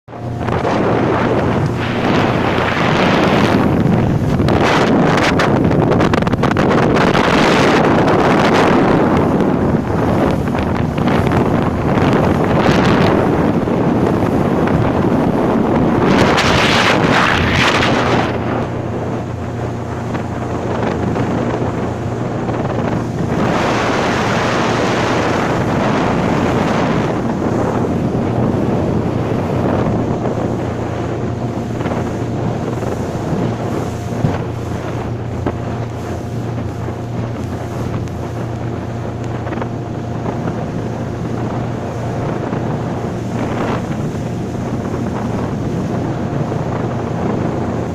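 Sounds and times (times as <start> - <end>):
motorboat engine hum: 0.0 - 47.9
water rushing past hull: 0.1 - 47.9
wind buffeting microphone: 0.1 - 47.9.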